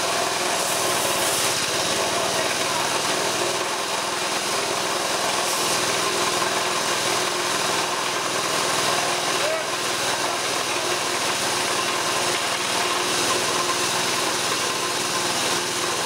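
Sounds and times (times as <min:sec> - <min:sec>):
compressor rasping grind: 0:00.0 - 0:16.0
small petrol engine running: 0:00.0 - 0:16.0.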